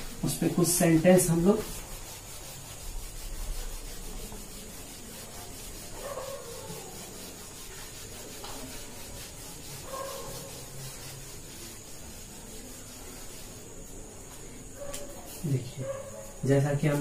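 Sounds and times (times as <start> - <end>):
duster rubbing whiteboard: 0.0 - 17.0.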